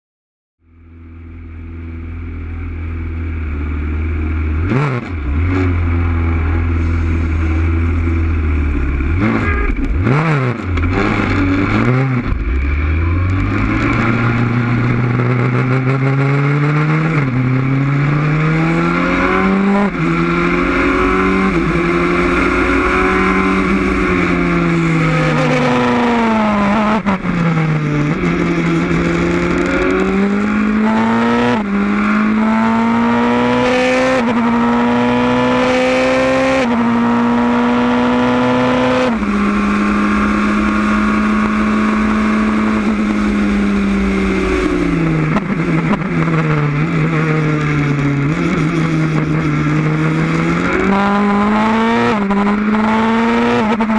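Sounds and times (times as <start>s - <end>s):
racing car engine revving: 4.6s - 53.9s.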